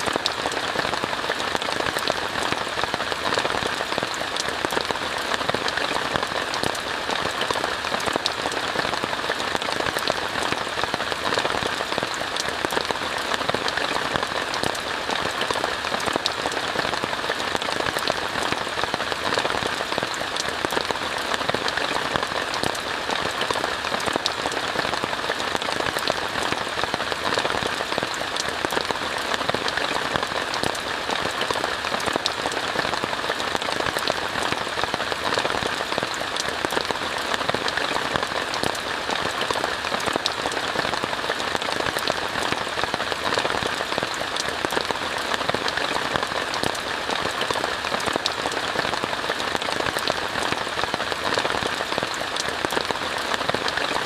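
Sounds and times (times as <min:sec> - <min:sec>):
rain falling on a tent: 0:00.0 - 0:54.0.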